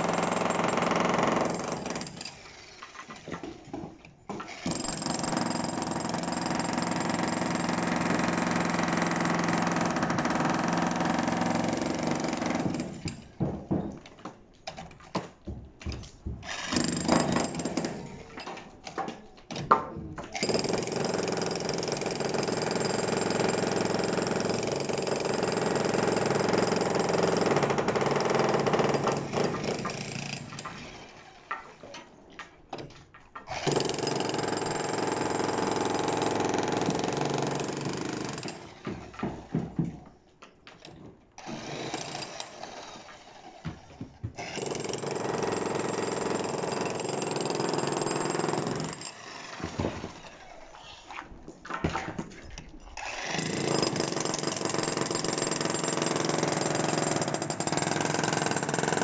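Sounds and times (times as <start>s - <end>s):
demolition hammer chiselling concrete: 0.0s - 14.3s, 15.4s - 19.0s, 19.7s - 31.1s, 33.4s - 40.0s, 41.4s - 50.9s, 51.7s - 59.0s.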